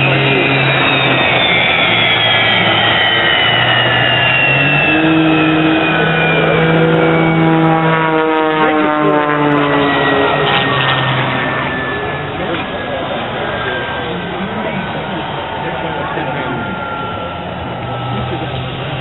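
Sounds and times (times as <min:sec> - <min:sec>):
jet engine winding down: 0:00.0 - 0:19.0.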